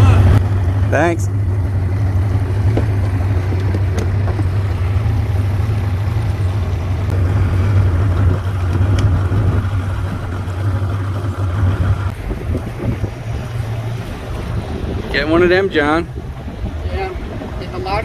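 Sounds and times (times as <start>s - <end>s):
outboard motor droning: 0.0s - 18.0s
water noise: 0.0s - 18.0s
wind noise: 0.0s - 18.0s.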